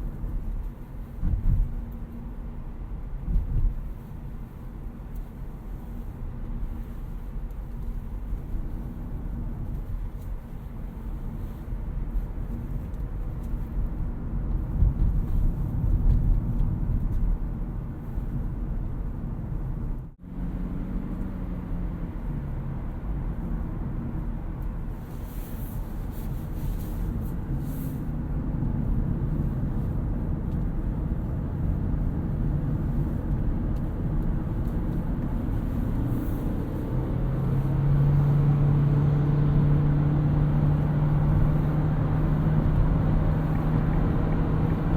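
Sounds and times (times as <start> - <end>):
tyre and road rumble: 3.2 - 44.9.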